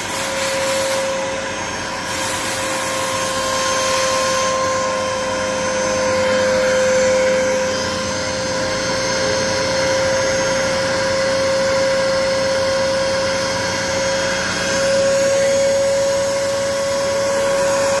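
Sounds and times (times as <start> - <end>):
machine motor whine: 0.0 - 18.0.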